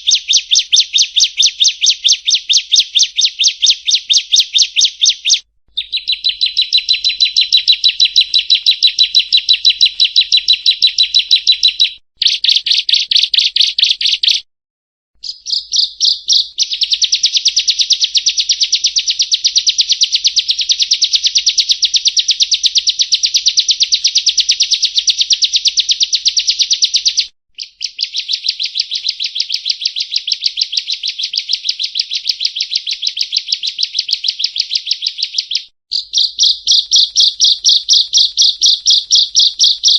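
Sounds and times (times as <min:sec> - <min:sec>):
bird singing high chirps: 0:00.0 - 0:14.4, 0:15.2 - 0:39.9.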